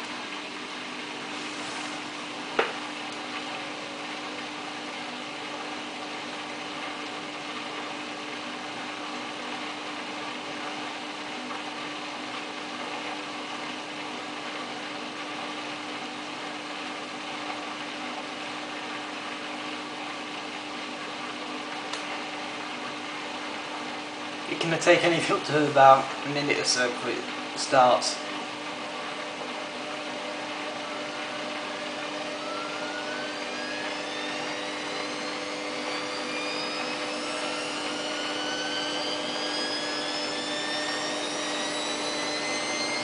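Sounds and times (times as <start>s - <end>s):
washing machine hum: 0.0s - 43.0s.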